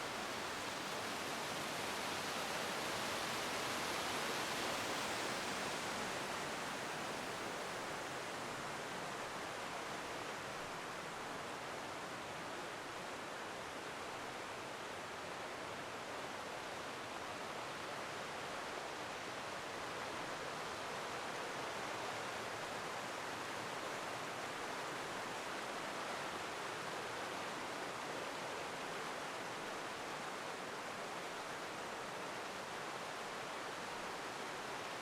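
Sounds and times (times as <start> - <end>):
river rushing over waterfalls: 0.0 - 35.0.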